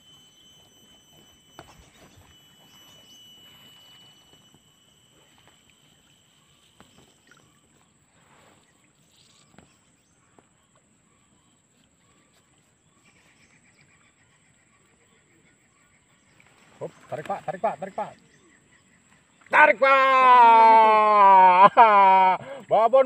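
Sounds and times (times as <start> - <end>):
thin steady high tone: 0.0 - 23.0.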